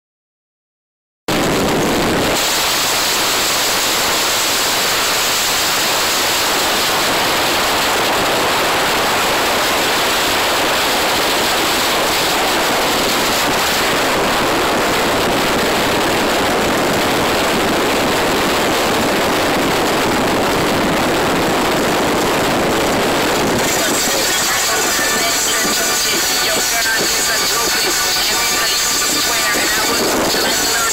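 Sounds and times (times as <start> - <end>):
wind and road noise: 1.3 - 30.9.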